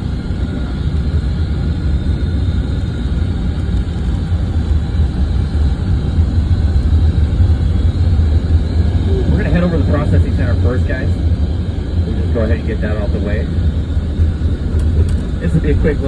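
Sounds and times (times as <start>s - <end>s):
bus engine rumble: 0.0s - 16.0s
road noise: 0.0s - 16.0s.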